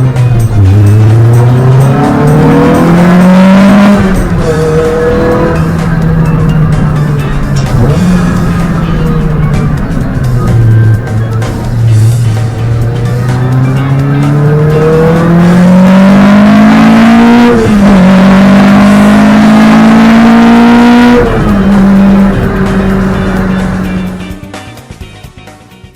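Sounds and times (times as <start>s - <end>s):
car engine accelerating hard: 0.0s - 24.4s.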